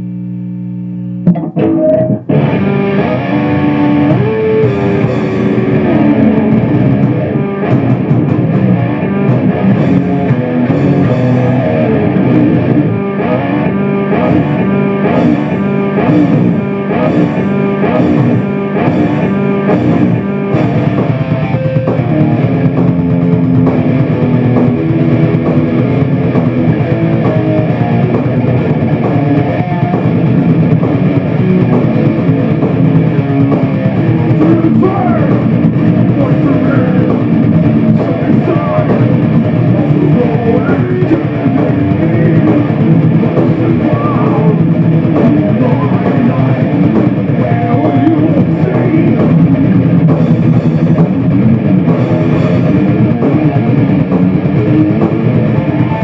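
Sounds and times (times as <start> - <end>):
electric guitar metal riffs: 0.0 - 56.0
drum beat: 1.3 - 56.0.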